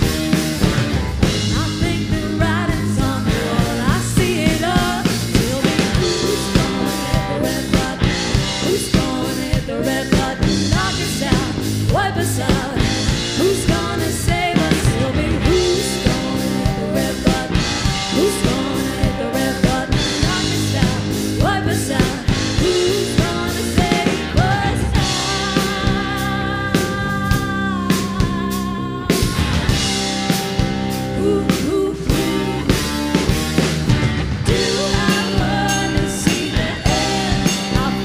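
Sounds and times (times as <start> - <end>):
rock band playing: 0.0 - 38.0
woman singing: 1.4 - 30.0, 30.7 - 33.3, 34.4 - 38.0.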